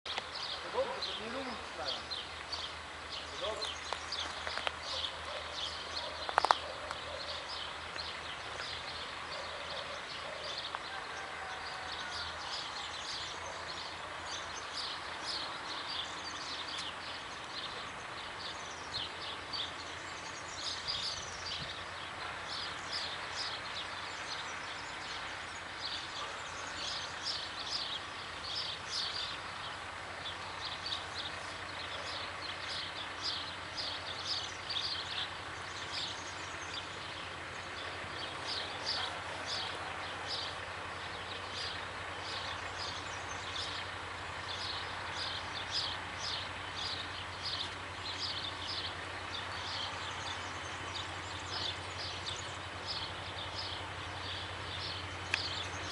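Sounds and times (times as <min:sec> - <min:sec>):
birds chirping: 0:00.1 - 0:55.9
distant diesel locomotive drone: 0:00.2 - 0:55.9.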